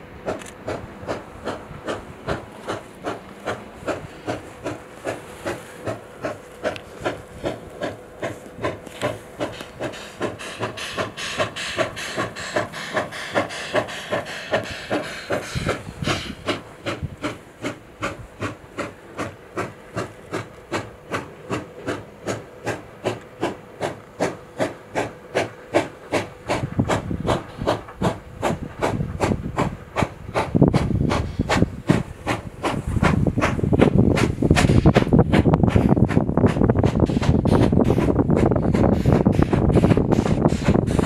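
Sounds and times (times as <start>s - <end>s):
steam hissing: 0.0s - 41.0s
steam locomotive chuffing: 0.0s - 41.0s
wind buffeting microphone: 0.2s - 18.9s, 26.4s - 41.0s.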